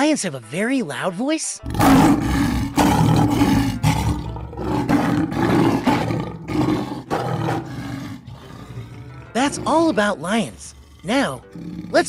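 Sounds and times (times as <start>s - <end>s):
lion roaring and grunting: 1.6s - 12.0s.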